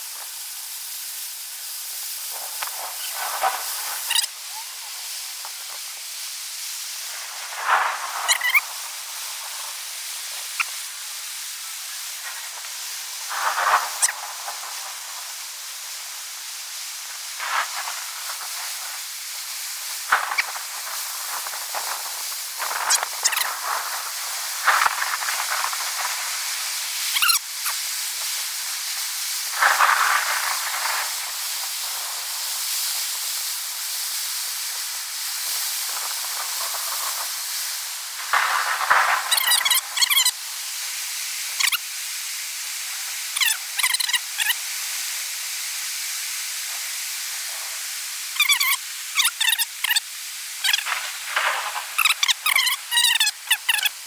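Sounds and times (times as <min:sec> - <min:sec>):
sped-up rain and wind hiss: 0:00.0 - 0:54.0.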